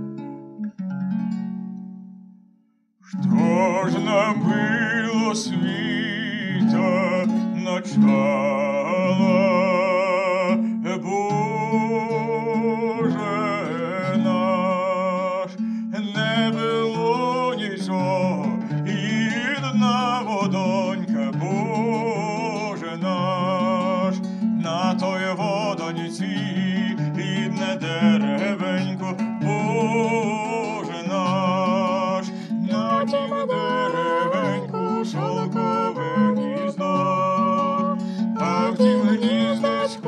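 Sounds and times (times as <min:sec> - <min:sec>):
plucked lute: 0:00.0 - 0:02.3, 0:03.0 - 0:40.0
man singing a slow ballad: 0:03.1 - 0:40.0.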